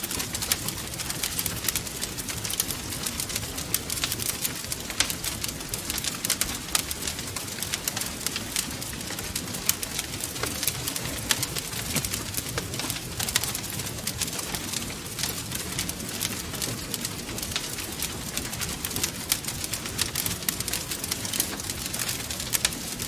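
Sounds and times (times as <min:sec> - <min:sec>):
low rumble of burning logs: 0:00.0 - 0:23.0
wood fire crackling and popping: 0:00.0 - 0:23.0.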